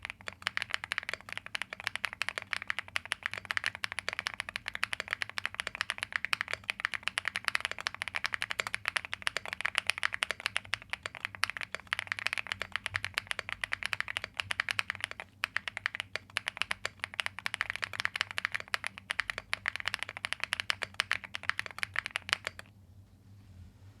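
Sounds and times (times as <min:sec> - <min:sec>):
mechanical keyboard typing: 0:00.0 - 0:22.7.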